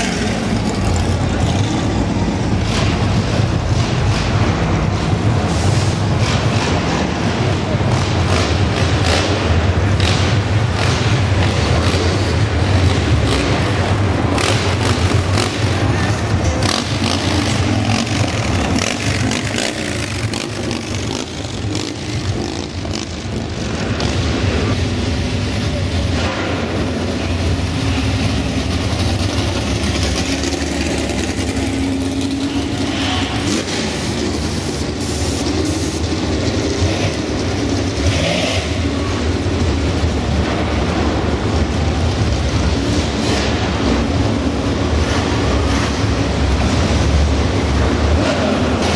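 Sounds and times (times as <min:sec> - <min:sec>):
muscle car engines rumbling: 0:00.0 - 0:48.9.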